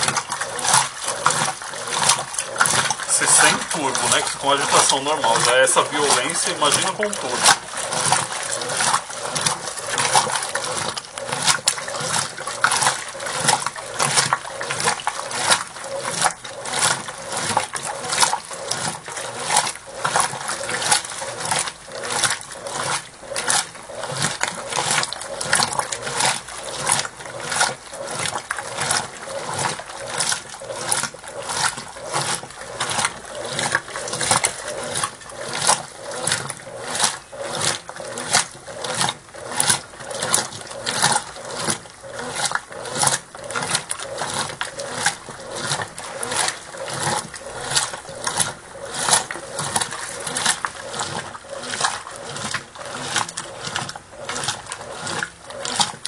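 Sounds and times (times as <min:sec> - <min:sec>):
washing machine water sloshing: 0:00.0 - 0:56.0.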